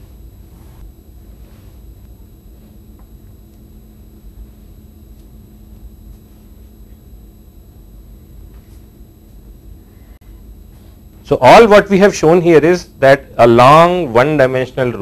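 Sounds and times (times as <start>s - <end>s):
low room rumble: 0.0s - 15.0s
thin high whine: 0.0s - 15.0s.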